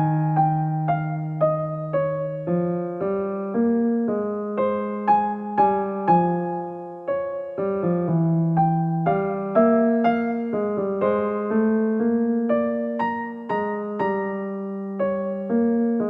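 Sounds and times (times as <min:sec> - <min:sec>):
gentle electric piano melody: 0:00.0 - 0:16.0.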